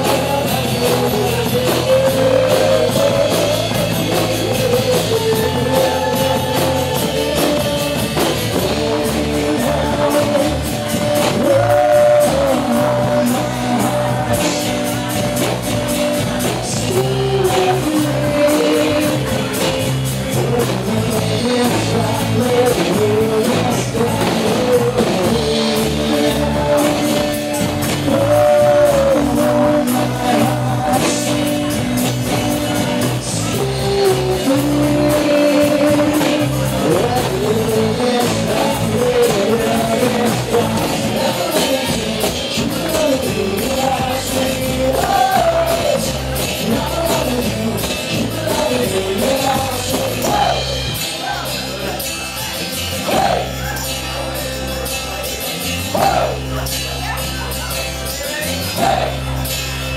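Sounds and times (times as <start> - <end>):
acoustic guitar: 0.0 - 59.9
drum kit: 0.0 - 59.9
electric bass: 0.0 - 59.9
man singing: 0.0 - 59.9.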